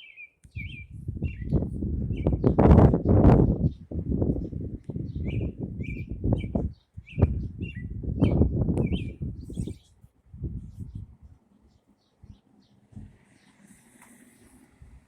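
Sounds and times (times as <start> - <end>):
bird chirping: 0.0 - 10.0, 10.6 - 14.6.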